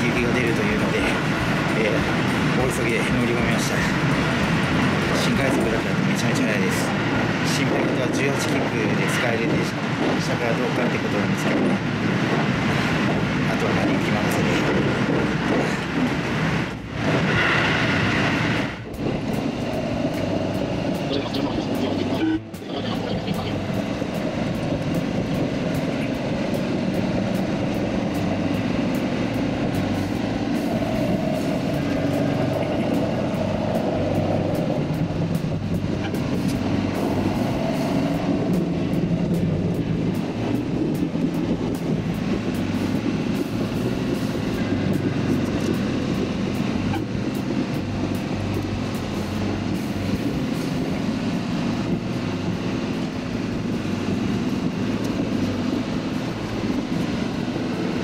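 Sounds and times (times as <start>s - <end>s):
train wheels on rails: 0.0s - 58.0s
high motor whine: 10.9s - 58.0s.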